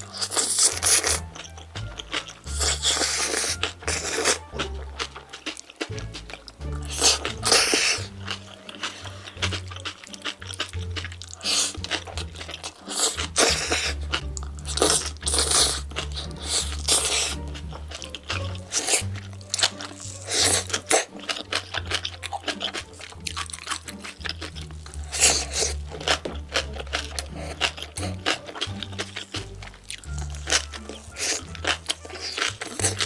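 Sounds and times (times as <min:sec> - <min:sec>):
background music with bass line: 0:00.0 - 0:33.0
crunching and chewing: 0:00.0 - 0:33.0.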